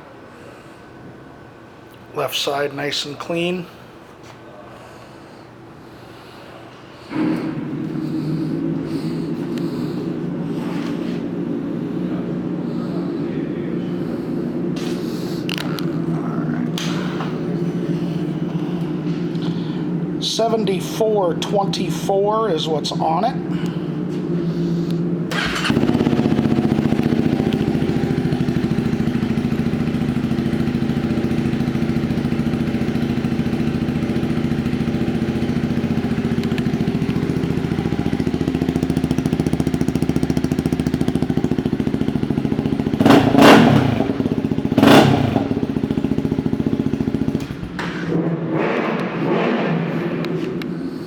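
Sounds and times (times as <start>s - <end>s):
motorcycle engine idling: 7.0s - 22.0s, 22.6s - 51.0s
engine revving: 7.1s - 21.6s, 23.7s - 51.0s.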